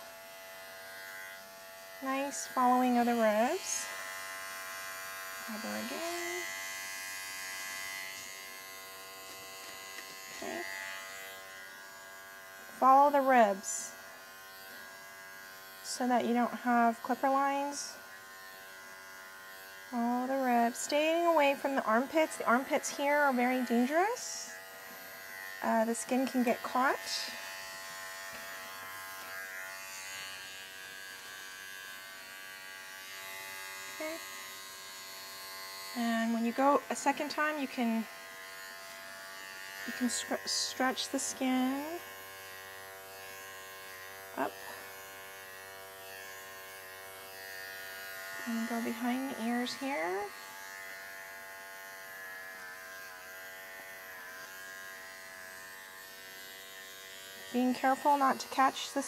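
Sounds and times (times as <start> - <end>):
pet clipper humming: 0.0 - 59.0.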